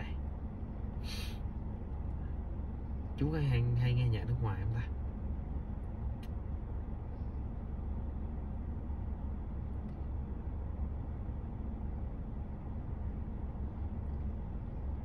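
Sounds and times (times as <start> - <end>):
car cabin low rumble: 0.0 - 15.0.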